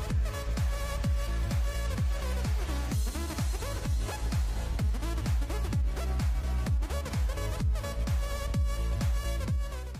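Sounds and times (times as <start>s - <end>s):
kick-drum beat: 0.0s - 9.9s.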